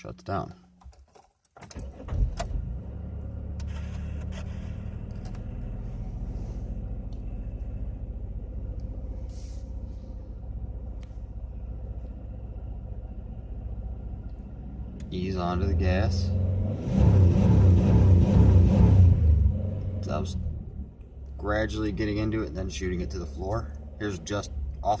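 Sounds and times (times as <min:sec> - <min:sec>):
car engine starting and idling: 0:00.8 - 0:25.0.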